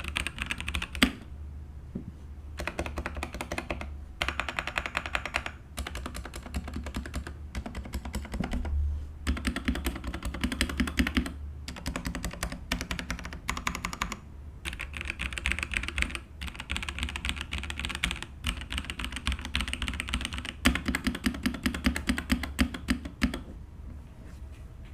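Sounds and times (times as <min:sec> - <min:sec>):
mechanical keyboard typing: 0:00.0 - 0:01.3, 0:02.6 - 0:23.4
steady low hum: 0:00.0 - 0:24.9.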